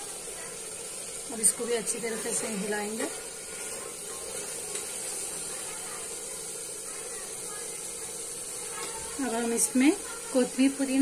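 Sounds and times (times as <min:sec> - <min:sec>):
masala sizzling in oil: 0:00.0 - 0:11.0.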